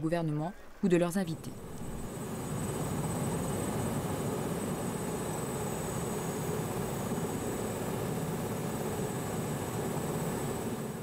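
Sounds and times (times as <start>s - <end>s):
high turbine whine: 0.9s - 11.0s
helicopter rotor: 1.2s - 11.0s.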